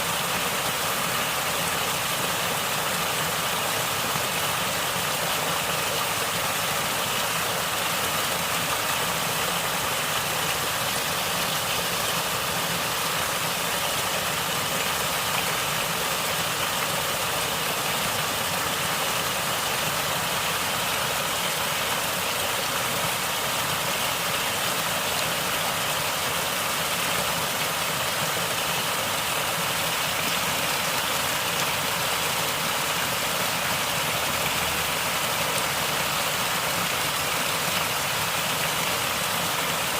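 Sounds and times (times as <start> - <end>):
water gurgling and rushing: 0.0 - 39.9.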